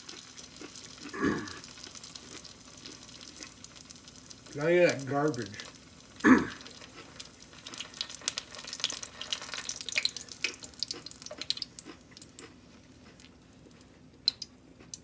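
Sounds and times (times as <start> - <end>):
hot oil crackling and popping: 0.0 - 15.0.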